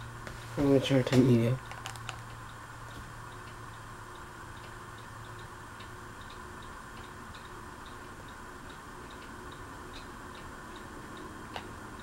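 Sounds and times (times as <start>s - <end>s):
ceiling fan humming and ticking: 0.0s - 12.0s.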